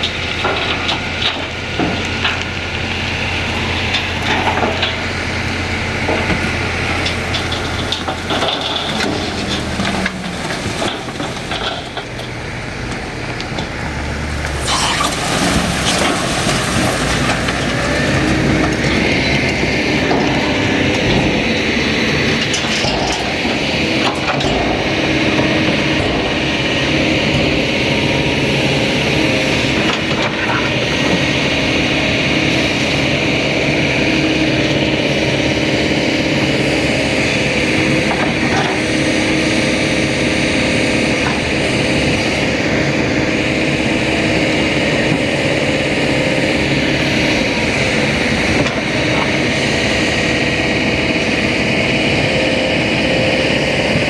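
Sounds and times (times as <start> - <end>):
excavator diesel engine running: 0.0 - 54.0
hydraulic whine: 0.0 - 54.0.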